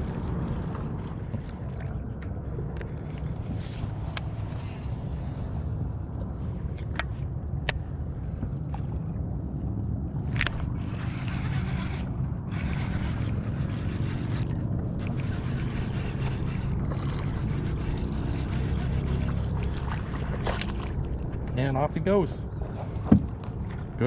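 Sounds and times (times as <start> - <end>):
small boat rumbling: 0.0 - 24.0.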